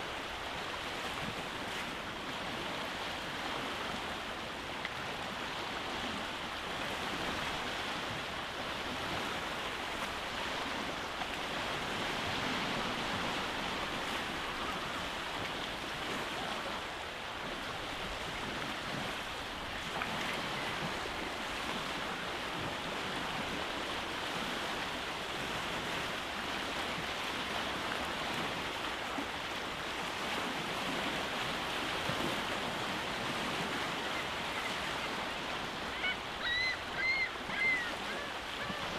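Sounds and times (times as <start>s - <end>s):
waves breaking on rocky beach: 0.0s - 38.9s.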